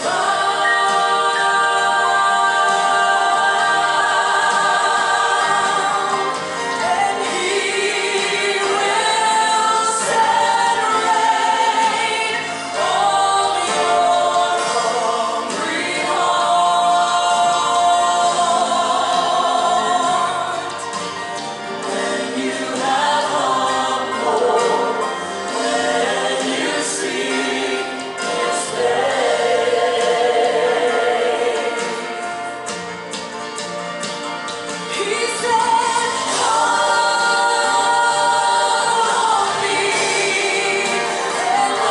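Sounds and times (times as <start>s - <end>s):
choir singing gospel song: 0.0s - 41.9s
musical accompaniment: 0.0s - 41.9s.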